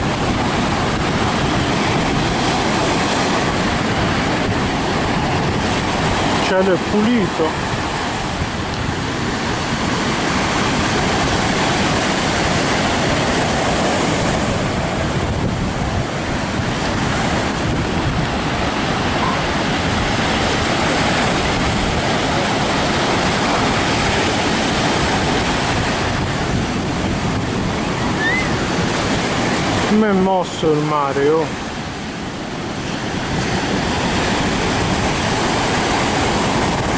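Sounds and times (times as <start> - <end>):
surf breaking on beach: 0.0 - 36.9
wind buffeting microphone: 0.0 - 36.9.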